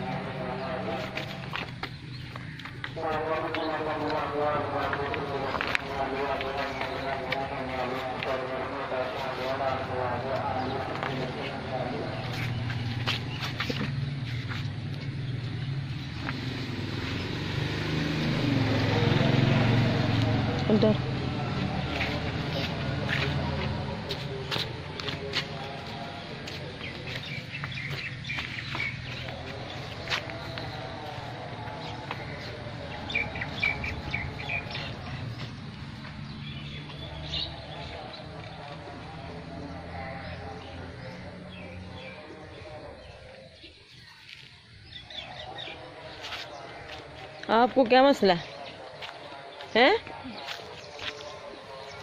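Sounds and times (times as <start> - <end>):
engine humming: 0.0 - 52.0
small birds chirping: 0.0 - 52.0.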